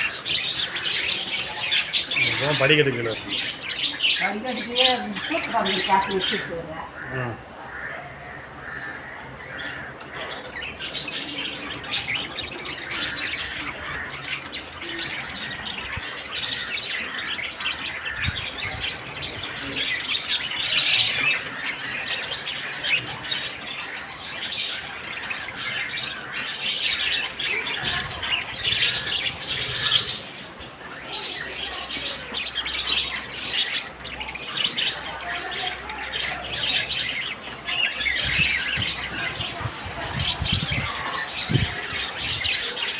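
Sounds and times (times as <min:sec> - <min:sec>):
birds chirping and squawking: 0:00.0 - 0:42.9.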